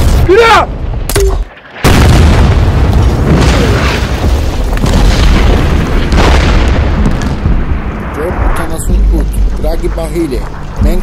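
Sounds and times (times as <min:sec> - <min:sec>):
heavy explosion rumbling: 0:01.8 - 0:11.0.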